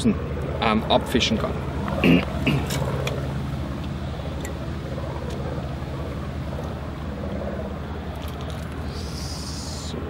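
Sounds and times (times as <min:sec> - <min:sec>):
distant engine humming: 0:00.0 - 0:10.0.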